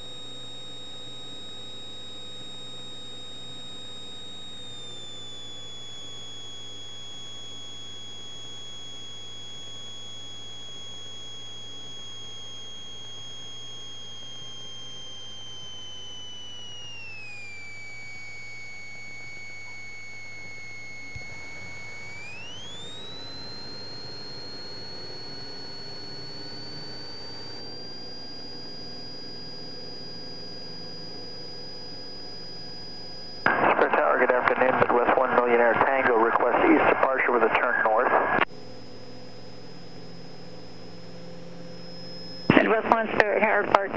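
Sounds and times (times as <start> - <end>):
faint low hum: 0.0 - 43.9
high electrical whine: 0.0 - 43.9.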